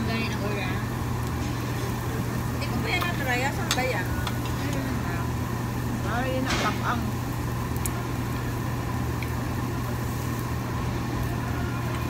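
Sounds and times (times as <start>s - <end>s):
dining room noise: 0.0s - 12.0s
ventilation exhaust humming: 0.0s - 12.0s.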